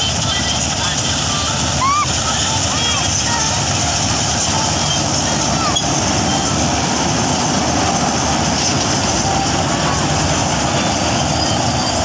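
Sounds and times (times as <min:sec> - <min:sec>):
combine harvester drone: 0:00.0 - 0:12.0.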